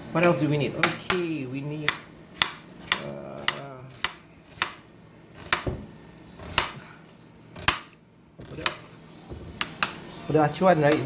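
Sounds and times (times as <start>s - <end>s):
knife chopping on cutting board: 0.2s - 6.9s, 7.6s - 10.0s.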